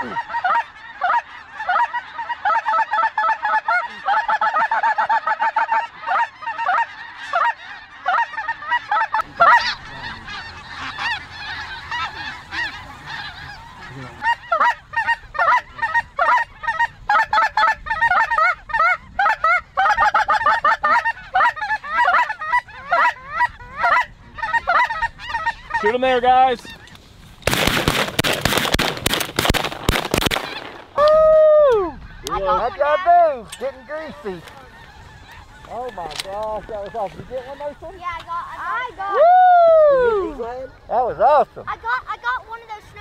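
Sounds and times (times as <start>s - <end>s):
geese honking: 0.0s - 43.0s.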